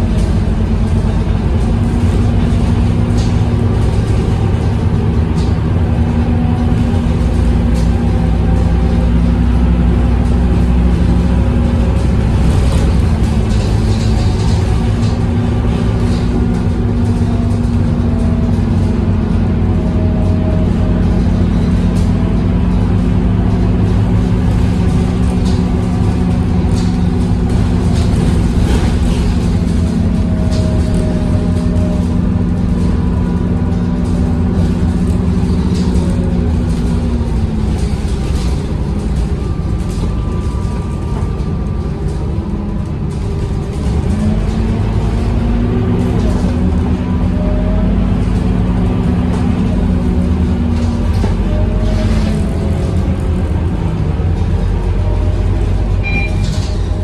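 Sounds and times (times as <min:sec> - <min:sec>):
bus body rattling: 0:00.0 - 0:57.0
diesel bus engine drumming: 0:00.0 - 0:57.0.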